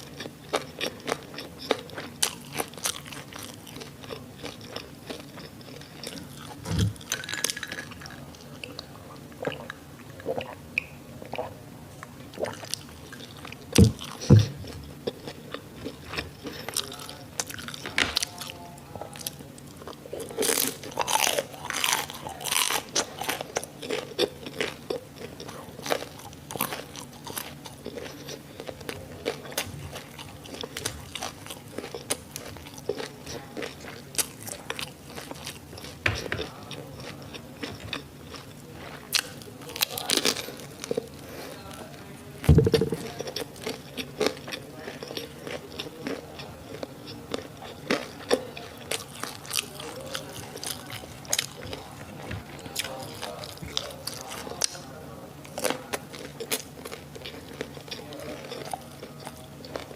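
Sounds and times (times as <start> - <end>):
crunchy chewing: 0.0 - 59.9.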